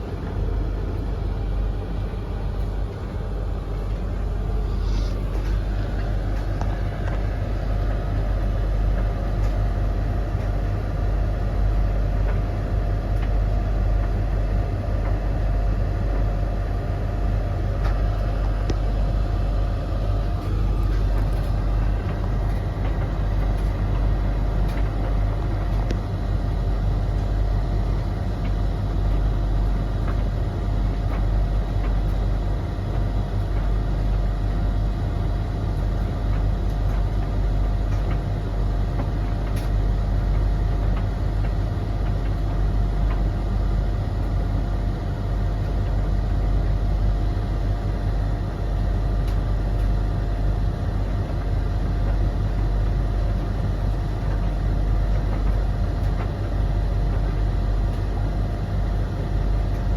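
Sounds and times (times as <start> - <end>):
tumble dryers running: 0.0 - 59.9.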